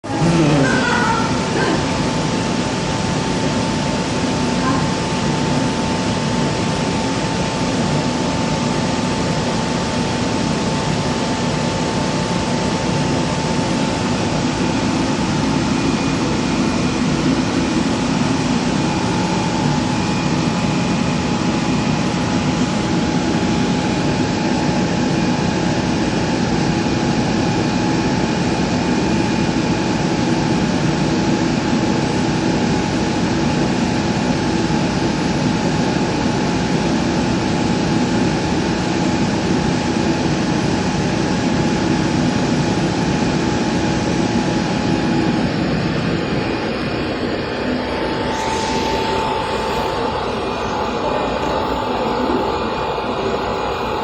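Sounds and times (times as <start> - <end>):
high machine whine: 0.0 - 54.0
laser cutting machine running: 0.0 - 54.0.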